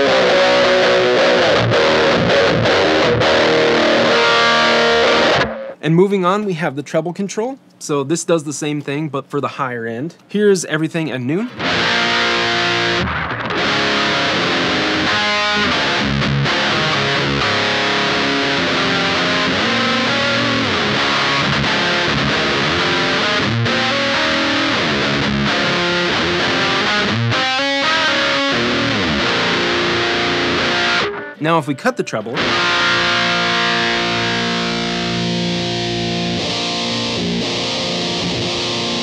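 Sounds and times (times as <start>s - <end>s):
distorted electric guitar riffs: 0.0s - 5.8s, 11.5s - 39.0s.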